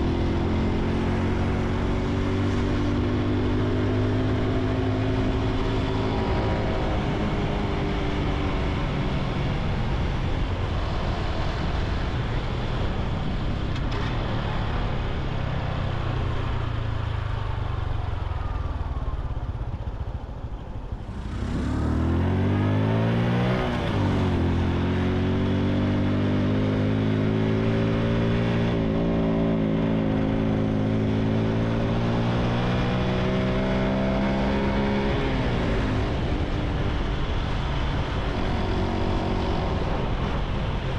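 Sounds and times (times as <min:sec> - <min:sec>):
motorcycle engine: 0:00.0 - 0:40.9
wind and road noise: 0:00.0 - 0:40.9.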